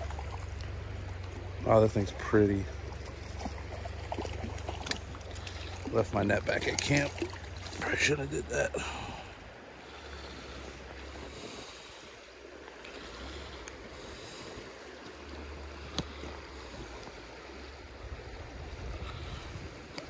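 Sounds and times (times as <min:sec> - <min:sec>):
creek water running over stones: 0:00.0 - 0:20.0
wind rumbling on microphone: 0:00.0 - 0:20.0.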